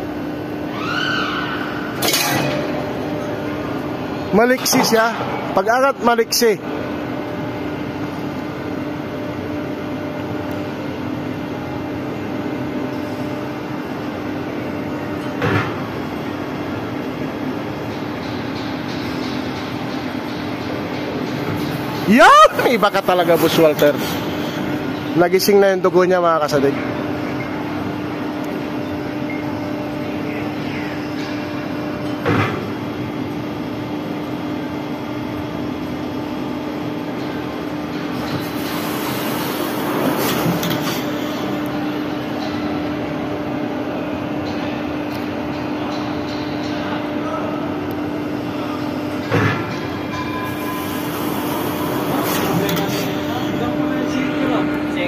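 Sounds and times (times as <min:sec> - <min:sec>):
ride drive mechanical hum: 0:00.0 - 0:55.0.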